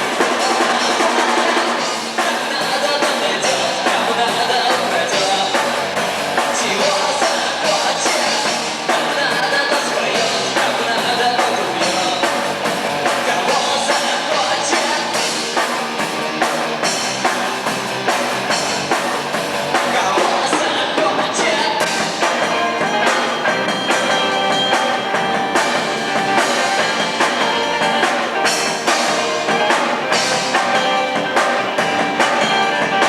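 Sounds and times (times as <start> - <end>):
drum kit hits: 0.0 - 33.0
live rock band: 0.0 - 33.0.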